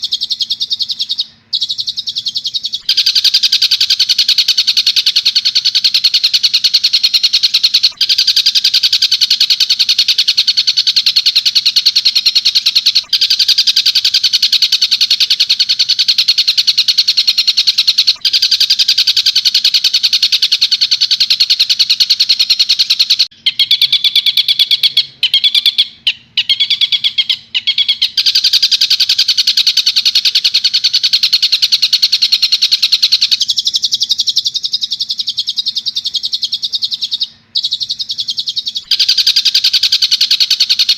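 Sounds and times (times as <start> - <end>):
faint electrical hum: 0.0 - 40.9.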